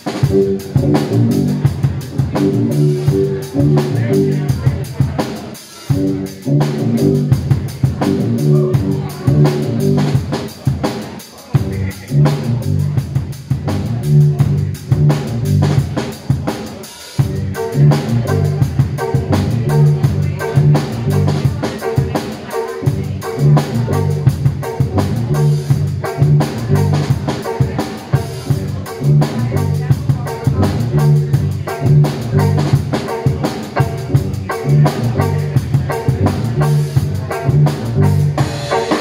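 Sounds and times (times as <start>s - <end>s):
drum kit playing: 0.0s - 39.0s.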